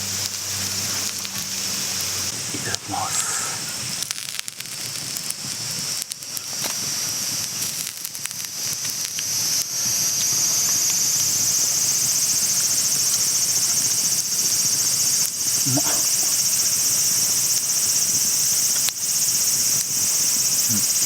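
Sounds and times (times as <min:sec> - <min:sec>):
campfire crackling: 0:00.0 - 0:21.0
insect trill: 0:00.0 - 0:21.0.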